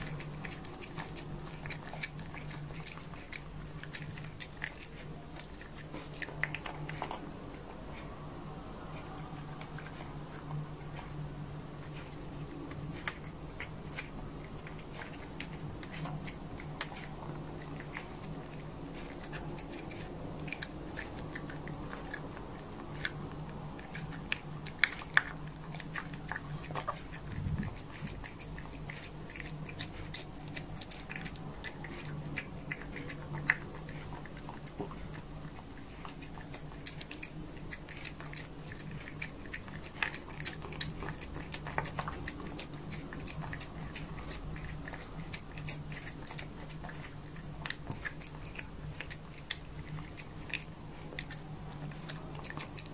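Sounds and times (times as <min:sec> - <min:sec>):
cat chewing and licking: 0:00.0 - 0:52.9
faint low hum: 0:00.0 - 0:52.9.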